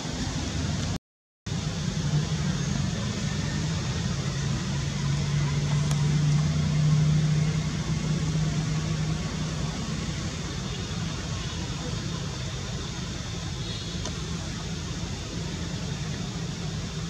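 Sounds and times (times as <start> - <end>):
low engine hum: 0.0 - 17.0
outdoor background noise: 0.0 - 17.0.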